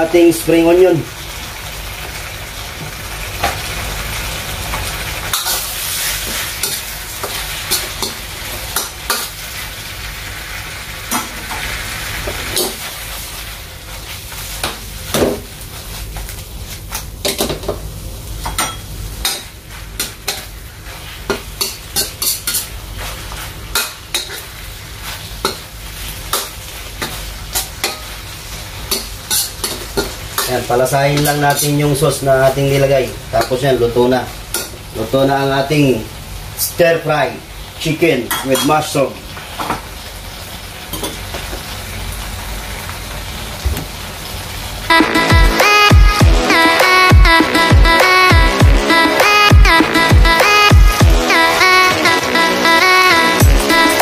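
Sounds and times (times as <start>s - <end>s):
food sizzling in a wok: 0.0s - 45.7s.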